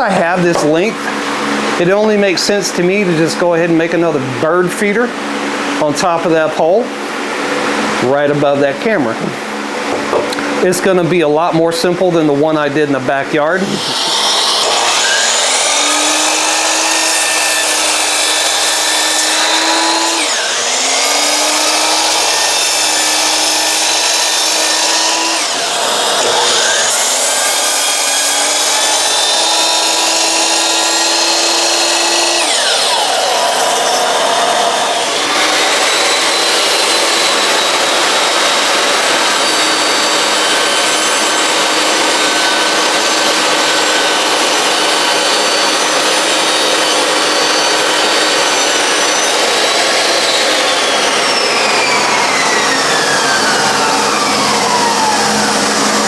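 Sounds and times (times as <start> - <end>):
power saw cutting wood: 0.0 - 6.8, 10.3 - 56.0.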